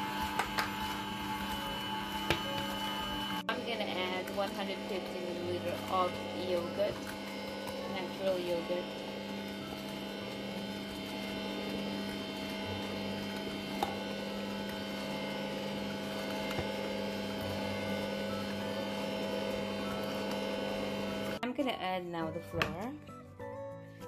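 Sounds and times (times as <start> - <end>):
stand mixer motor humming: 0.0 - 21.4.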